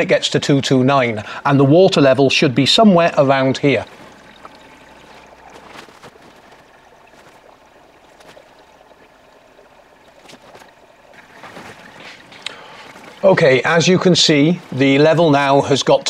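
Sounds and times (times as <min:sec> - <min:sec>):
water rushing into washing machine: 0:00.7 - 0:16.0.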